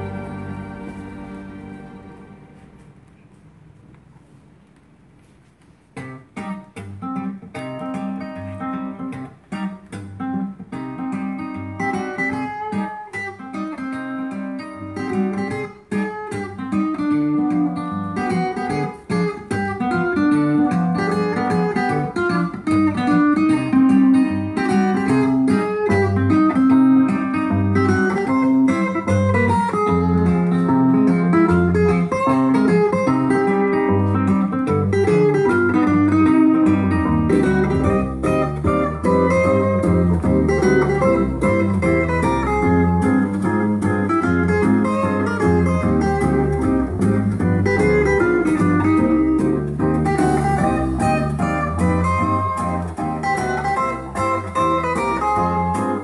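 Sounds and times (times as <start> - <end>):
guitar music from a record: 0.0 - 56.0.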